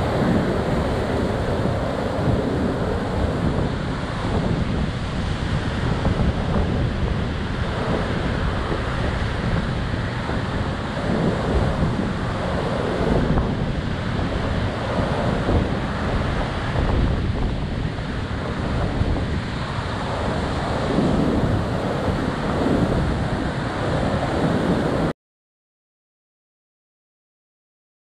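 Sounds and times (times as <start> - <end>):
wind rushing over microphone: 0.0 - 25.1.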